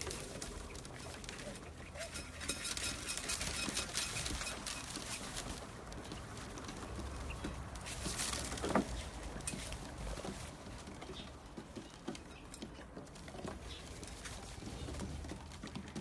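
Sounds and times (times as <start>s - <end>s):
birds scratching and rustling: 0.0s - 16.0s.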